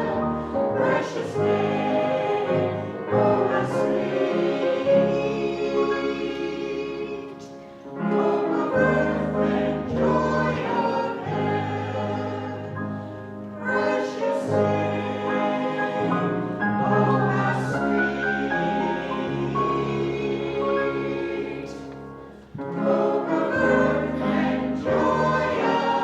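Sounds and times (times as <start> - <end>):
choir singing: 0.0 - 26.0
held accompaniment chords: 0.0 - 26.0.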